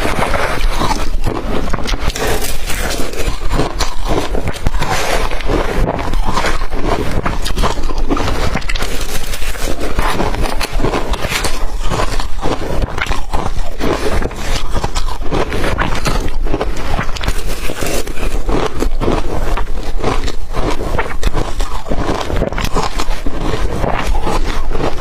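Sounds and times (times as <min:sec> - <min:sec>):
ice crunching being chewed: 0:00.0 - 0:25.0.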